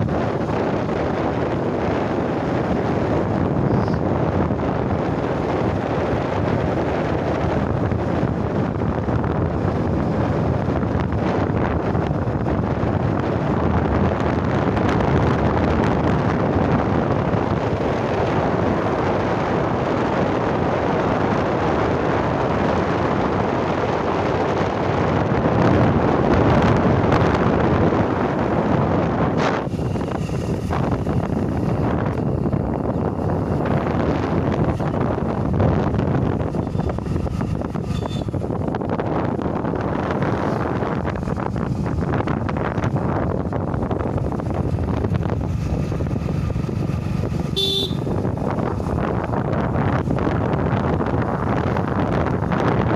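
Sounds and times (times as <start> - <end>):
vehicle road noise: 0.0 - 52.9
wind buffeting microphone: 0.0 - 52.9.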